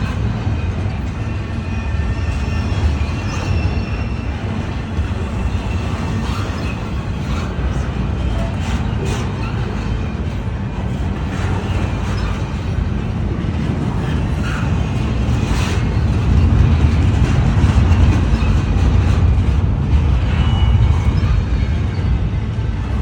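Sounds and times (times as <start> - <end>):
faint rail clacks: 0.0 - 23.0
freight train wheels rumbling: 0.0 - 23.0.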